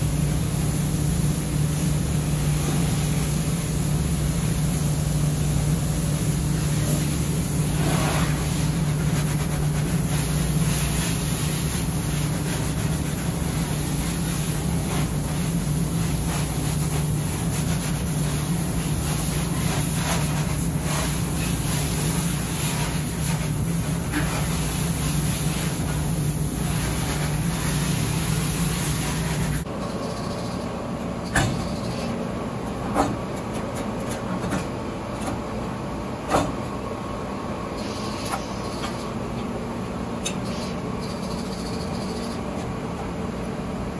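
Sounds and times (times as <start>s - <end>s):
laundry machinery humming: 0.0s - 43.9s.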